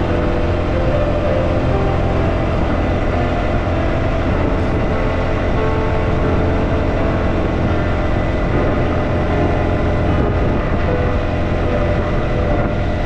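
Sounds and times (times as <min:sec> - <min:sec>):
motorcycle engine drone: 0:00.0 - 0:13.0
road noise: 0:00.0 - 0:13.0.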